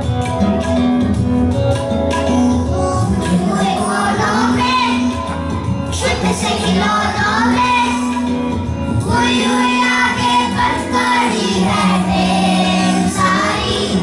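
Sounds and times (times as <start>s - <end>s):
children's song melody: 2.2s - 14.0s.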